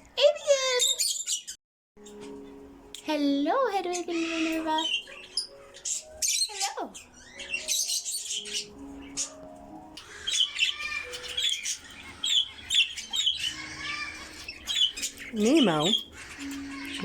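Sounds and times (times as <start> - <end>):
parrots chirping and squawking: 0.2 - 3.0, 3.6 - 17.0.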